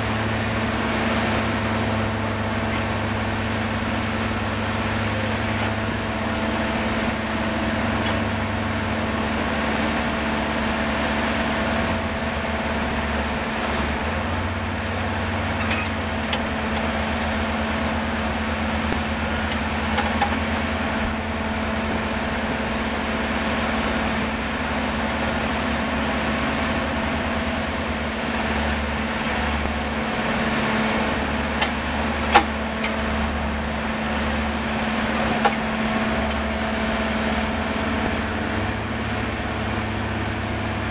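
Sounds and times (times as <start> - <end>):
drilling rig machine hum: 0.0 - 40.9
pulsing low rumble: 0.0 - 40.9.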